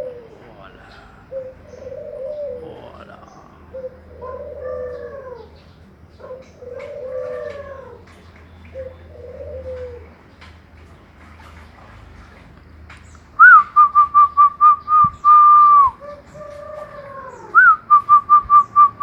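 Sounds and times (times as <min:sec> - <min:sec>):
dove cooing: 0:00.0 - 0:10.8, 0:13.4 - 0:19.0.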